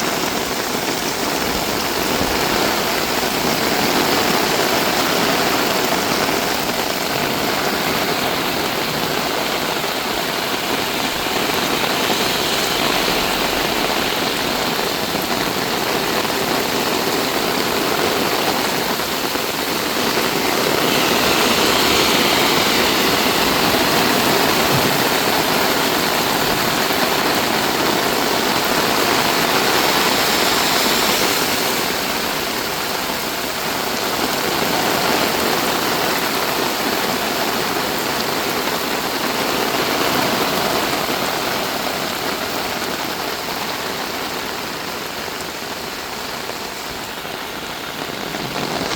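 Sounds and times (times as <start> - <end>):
heavy rain pouring down: 0.0 - 48.9.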